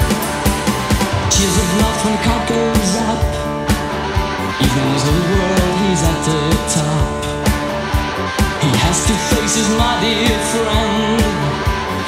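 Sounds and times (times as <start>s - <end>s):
lead guitar bending pitch: 0.0s - 12.0s
rock band playing: 0.0s - 12.0s.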